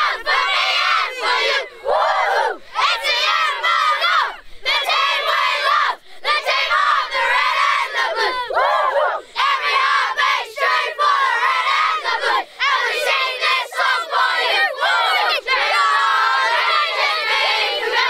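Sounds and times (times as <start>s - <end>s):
boys chanting in unison: 0.0s - 18.0s.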